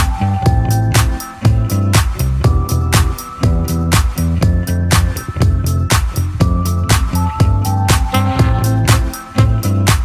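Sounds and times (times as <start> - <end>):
upbeat funk disco music: 0.0 - 10.0.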